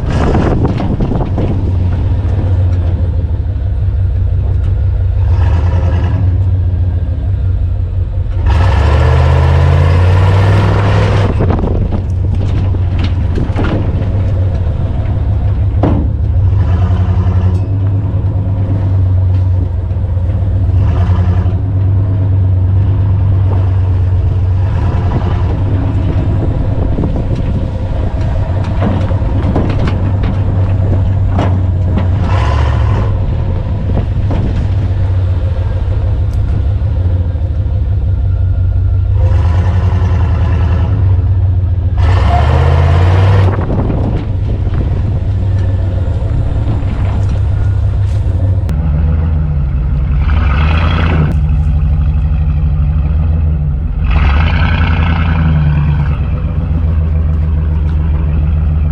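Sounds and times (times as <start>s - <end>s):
truck engine revving under load: 0.0s - 58.9s.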